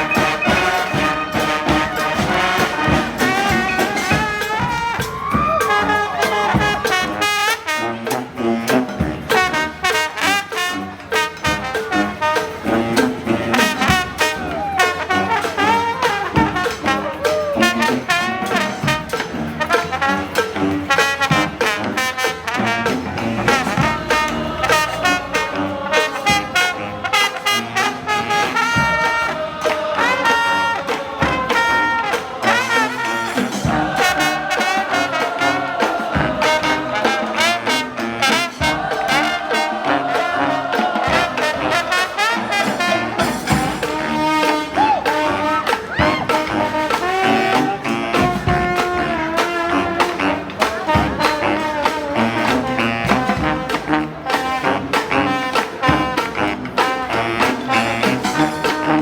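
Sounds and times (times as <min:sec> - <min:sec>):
brass band playing: 0:00.0 - 0:59.0
steady drum beat: 0:00.0 - 0:59.0.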